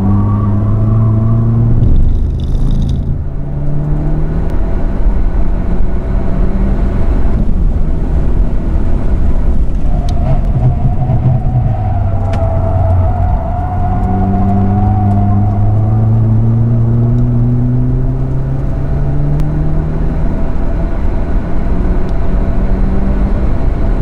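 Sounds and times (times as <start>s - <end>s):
wind noise: 0.0s - 3.8s, 4.5s - 24.0s
car engine revving: 0.0s - 24.0s.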